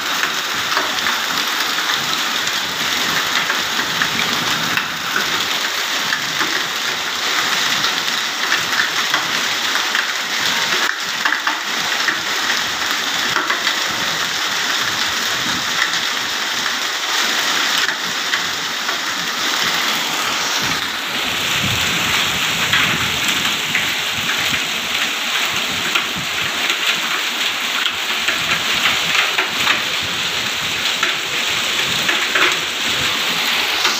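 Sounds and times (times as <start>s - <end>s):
heavy rain and hail pelting: 0.0s - 33.9s.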